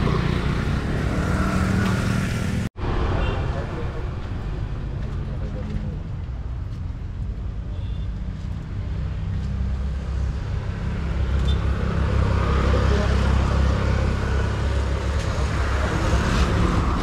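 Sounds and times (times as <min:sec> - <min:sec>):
engine rumble of passing traffic: 0:00.0 - 0:17.0.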